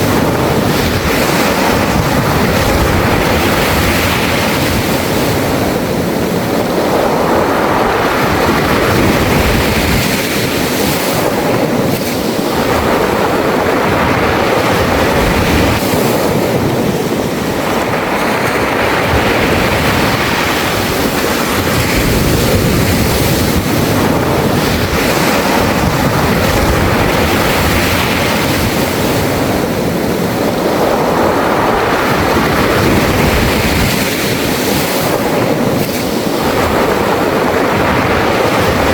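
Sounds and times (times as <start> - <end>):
waves rolling pebbles on beach: 0.0 - 38.9.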